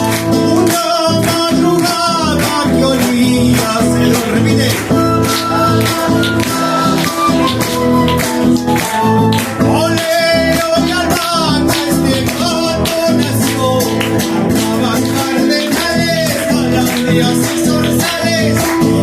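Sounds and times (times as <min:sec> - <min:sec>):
person singing: 0:00.0 - 0:19.0
strummed acoustic guitars: 0:00.0 - 0:19.0.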